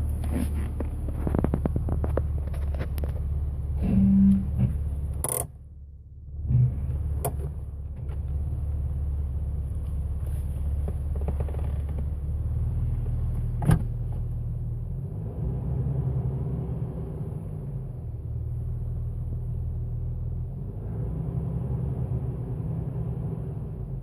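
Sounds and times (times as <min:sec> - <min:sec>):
engine low drone with buzz: 0:00.0 - 0:24.0.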